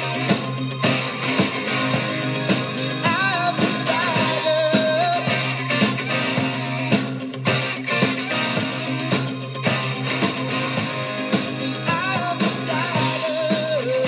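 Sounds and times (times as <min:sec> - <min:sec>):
melodic guitar lead line: 0:00.0 - 0:14.0
rock music with guitar and drums: 0:00.0 - 0:14.0.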